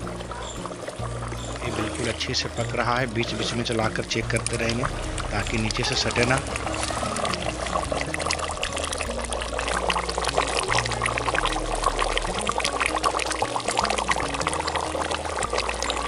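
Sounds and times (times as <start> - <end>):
curry bubbling in a pot: 0.0 - 16.0
low music bass line: 0.0 - 16.0.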